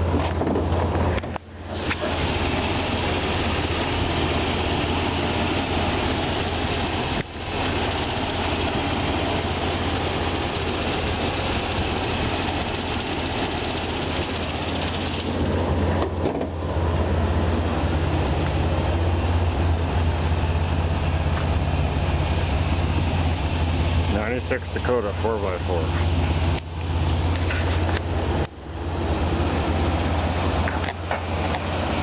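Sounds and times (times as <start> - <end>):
pickup engine idling: 0.0 - 32.0.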